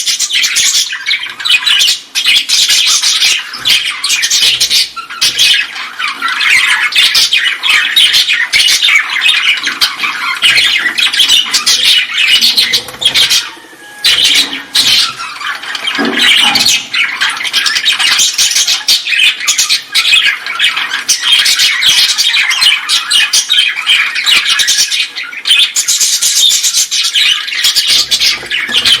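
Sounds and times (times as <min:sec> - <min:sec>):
birds squawking in chatter: 0:00.0 - 0:29.0.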